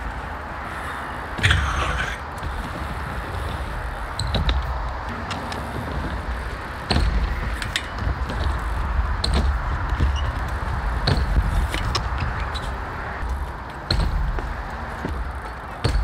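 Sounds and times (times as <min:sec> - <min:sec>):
bike tyres rolling on concrete: 0:00.0 - 0:16.0
bike knocking on concrete: 0:02.3 - 0:16.0.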